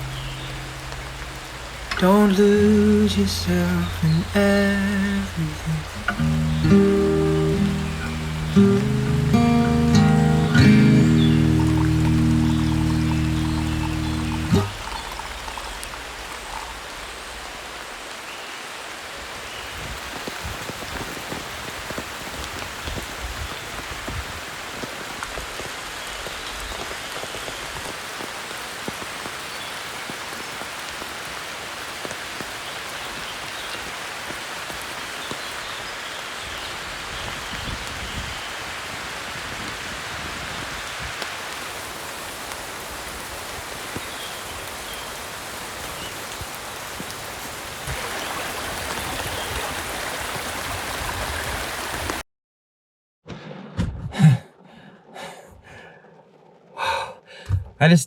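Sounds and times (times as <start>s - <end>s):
rain drops falling: 0.0s - 52.2s.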